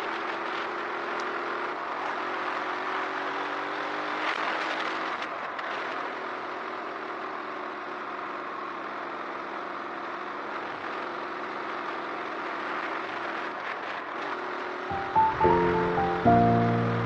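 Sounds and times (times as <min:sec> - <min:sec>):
motorcycle running on the move: 0:00.0 - 0:14.9.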